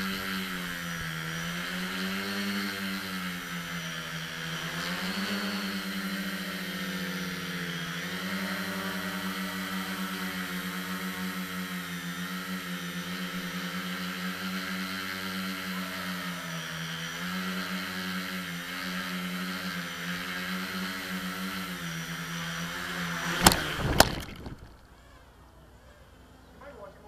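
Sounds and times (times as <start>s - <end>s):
drone motors whining: 0.0s - 26.4s.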